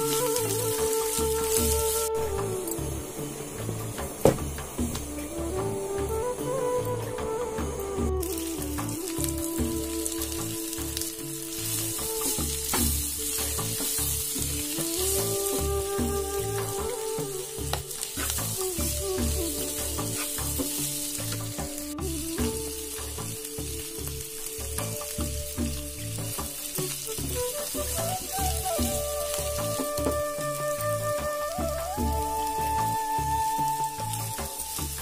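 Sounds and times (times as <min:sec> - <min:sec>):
background music with beat: 0:00.0 - 0:35.0
carrots sizzling in a pan: 0:00.0 - 0:35.0.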